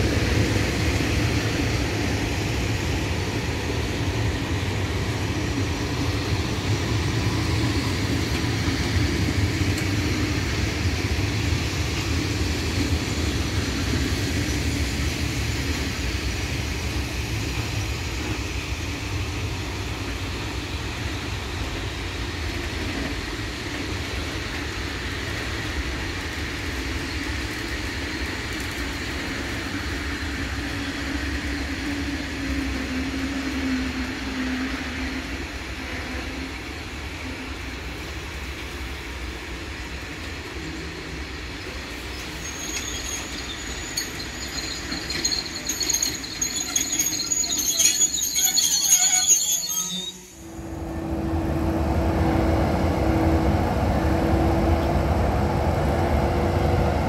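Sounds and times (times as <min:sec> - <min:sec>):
electric locomotive hum: 0:00.0 - 0:57.0
freight train wheels rumbling: 0:00.0 - 0:57.0
train wheels squealing: 0:00.4 - 0:36.9, 0:40.2 - 0:50.6.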